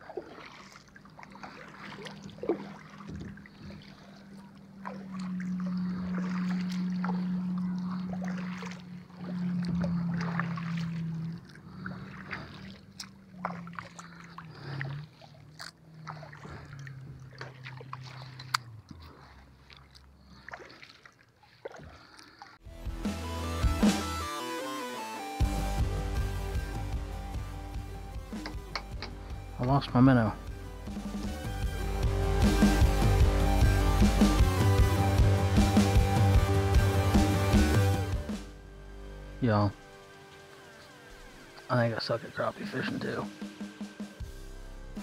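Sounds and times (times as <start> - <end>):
motorboat engine droning: 0.0 - 21.3, 22.6 - 45.0.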